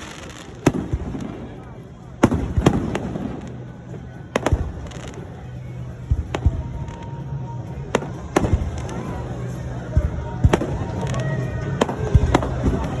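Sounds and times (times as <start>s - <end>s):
fireworks booming with echoes: 0.0s - 13.0s.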